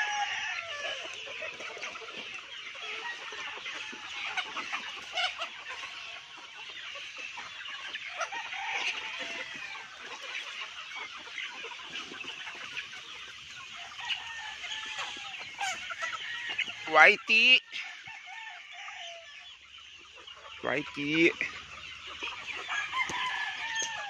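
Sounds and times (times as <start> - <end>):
chicks clucking and peeping: 0.0 - 24.0.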